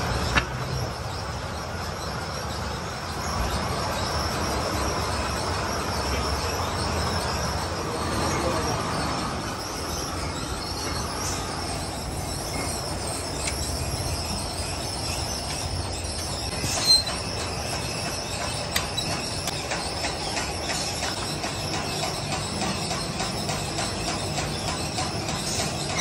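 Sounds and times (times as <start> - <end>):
coil-winding spindle whining: 0.0 - 26.0.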